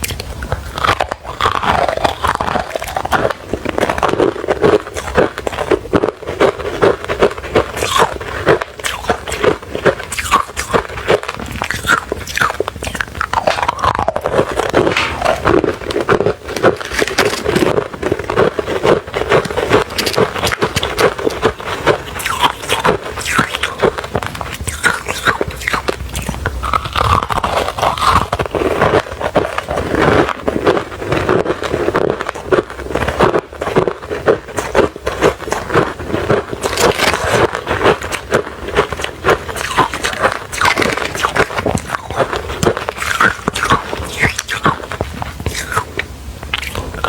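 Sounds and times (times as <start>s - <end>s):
chewing crushed ice: 0.0s - 47.0s.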